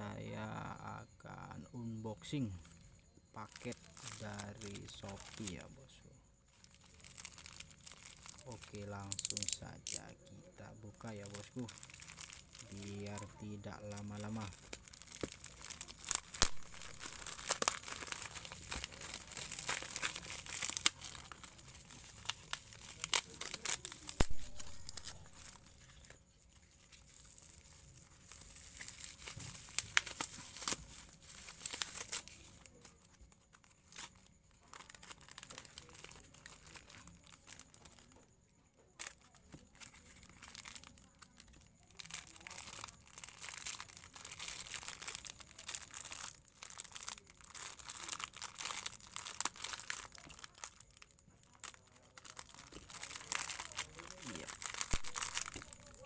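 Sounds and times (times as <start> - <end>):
plastic packaging crinkling and tearing: 1.8 - 38.3, 38.9 - 56.0.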